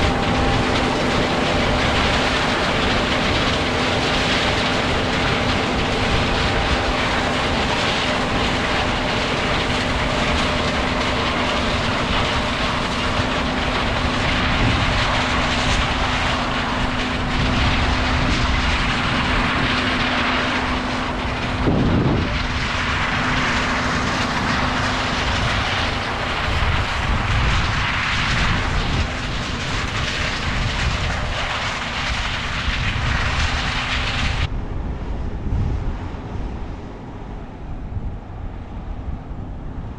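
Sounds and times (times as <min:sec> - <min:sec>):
diesel harvest machinery running: 0:00.0 - 0:34.5.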